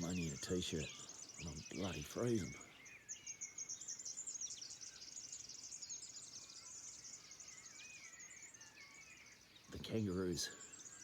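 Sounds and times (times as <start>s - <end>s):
faint birdsong chirping: 0.0s - 11.0s.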